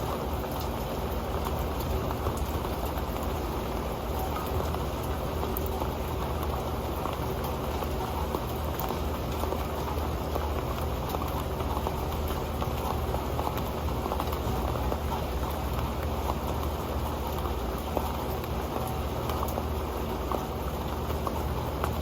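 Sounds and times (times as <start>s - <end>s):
rain drops on metal pan: 0.0s - 22.0s.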